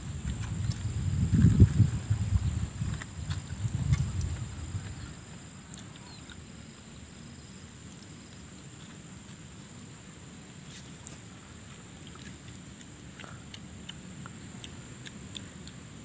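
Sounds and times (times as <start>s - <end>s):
faint chewing with crunches: 0.0s - 16.0s.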